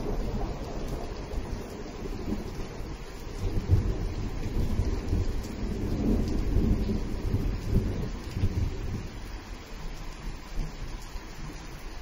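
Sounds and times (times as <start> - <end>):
thunder rumbling: 0.0 - 9.6
steady rain: 0.0 - 12.0.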